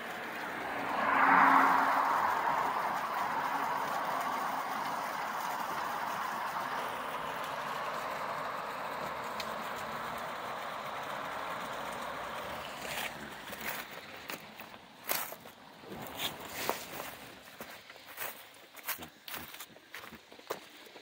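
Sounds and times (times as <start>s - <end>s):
car tyre and road noise: 0.0s - 21.0s.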